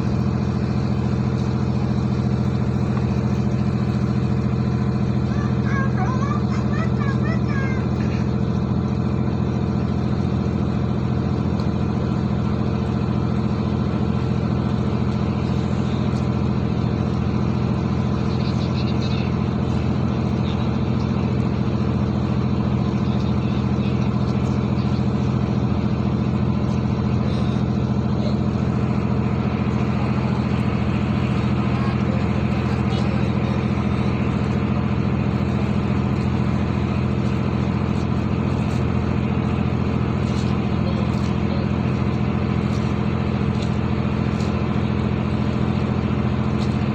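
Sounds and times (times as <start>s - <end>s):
ship engine droning: 0.0s - 46.9s.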